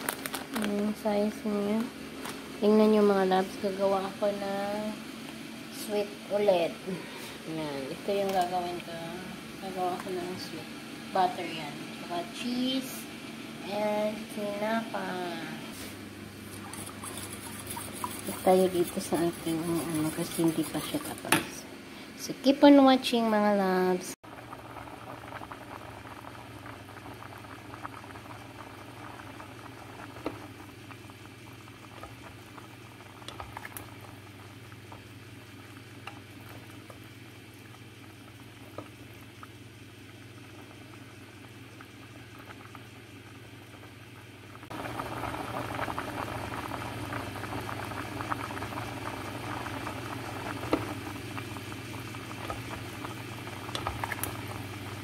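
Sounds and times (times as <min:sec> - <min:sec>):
pot of water boiling: 0:00.0 - 0:21.6, 0:22.2 - 0:55.0.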